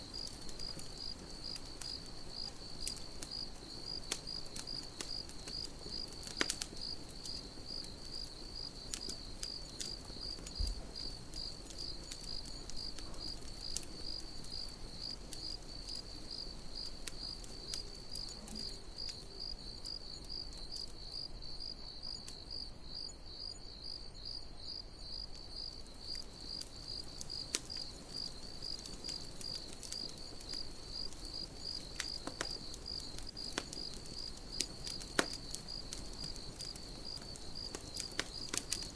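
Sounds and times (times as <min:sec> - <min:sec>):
campfire crackling: 0:00.0 - 0:23.0, 0:24.2 - 0:38.9
crickets chirping: 0:00.0 - 0:38.9.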